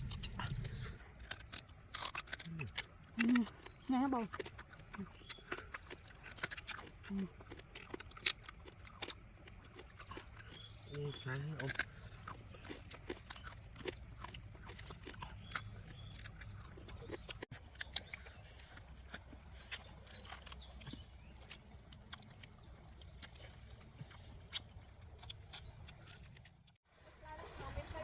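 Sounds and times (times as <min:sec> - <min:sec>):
person chewing: 0:00.0 - 0:26.8
sharp clicks and crunches: 0:00.0 - 0:26.8.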